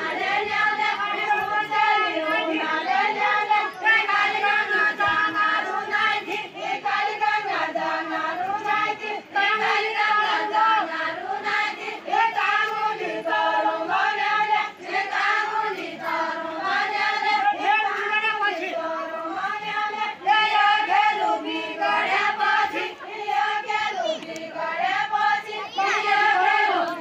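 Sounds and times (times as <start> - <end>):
women singing folk song in unison: 0.0 - 27.0.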